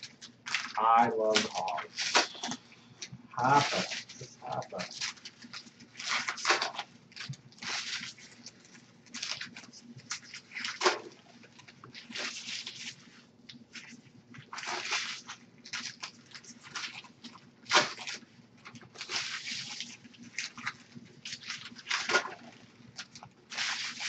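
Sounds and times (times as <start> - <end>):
foil wrappers crinkling and tearing: 0.0 - 2.7, 3.4 - 24.0.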